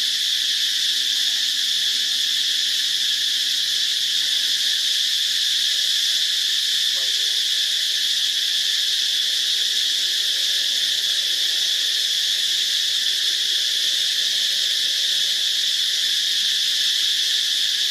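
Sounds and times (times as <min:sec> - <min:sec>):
insects droning: 0:00.0 - 0:17.9.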